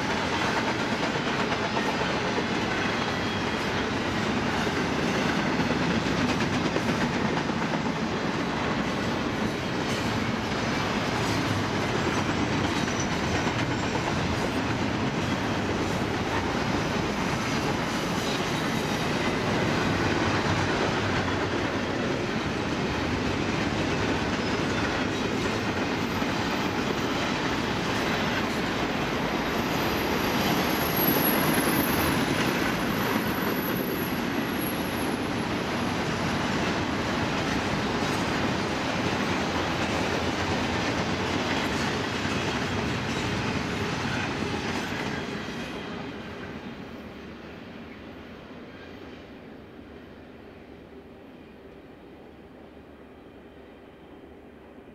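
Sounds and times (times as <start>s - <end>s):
train wheels rumbling on rails: 0.0s - 52.4s.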